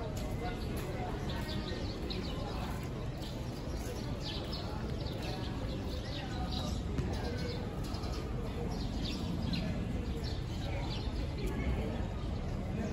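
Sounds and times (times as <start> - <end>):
flock of birds chirping: 0.0 - 12.9.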